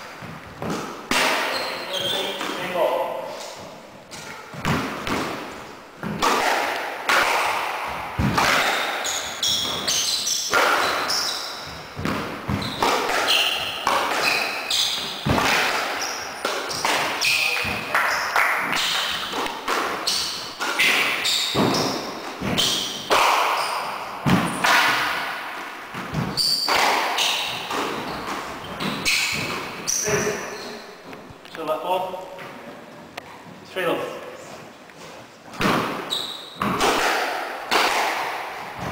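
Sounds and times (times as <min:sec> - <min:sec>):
shoes squeaking on wooden floor: 0:00.0 - 0:06.3, 0:07.9 - 0:24.7, 0:25.9 - 0:31.6, 0:34.4 - 0:36.8
squash ball hits echoing: 0:00.0 - 0:31.0, 0:35.5 - 0:38.9.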